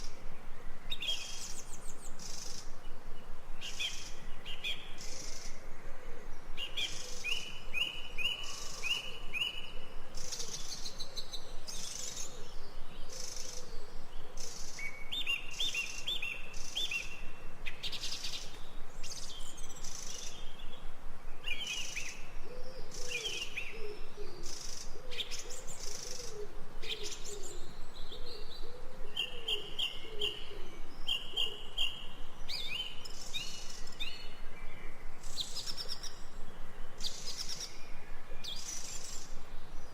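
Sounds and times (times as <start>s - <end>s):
lower bird calls: 0.0s - 39.9s.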